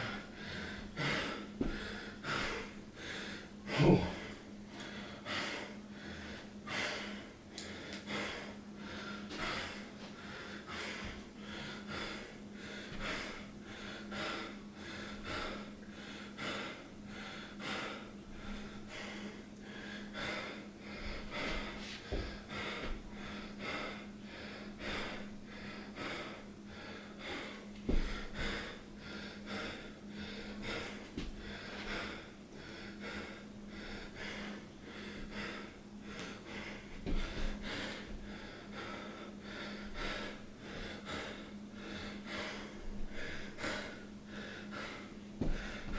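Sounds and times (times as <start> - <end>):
person breathing heavily: 0.0 - 45.9.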